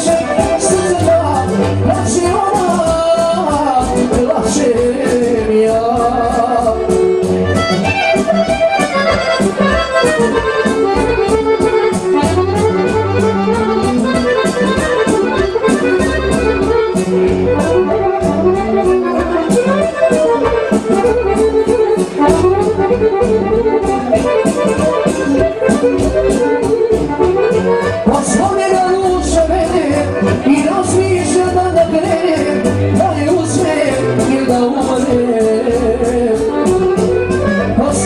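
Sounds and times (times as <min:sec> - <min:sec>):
folk dance music with accordion: 0:00.0 - 0:38.0.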